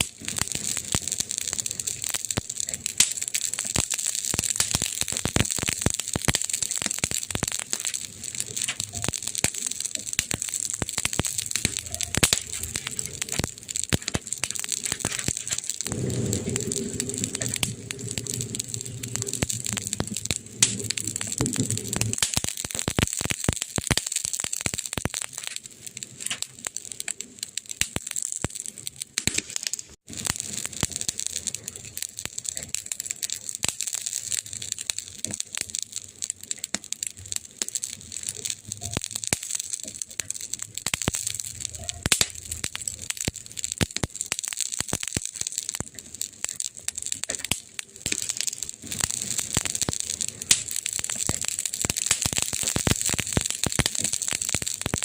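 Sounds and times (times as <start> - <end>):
burning wood crackling: 0.0 - 55.0.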